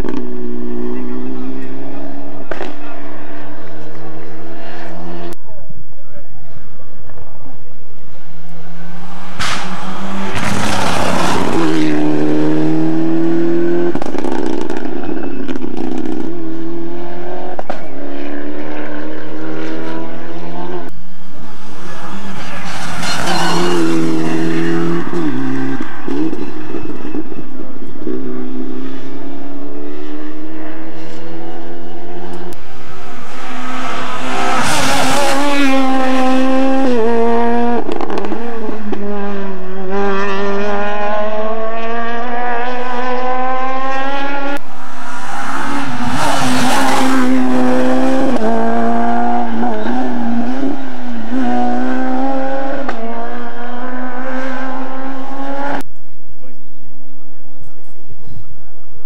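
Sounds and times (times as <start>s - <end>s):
rally car engines at full throttle: 0.0s - 59.0s.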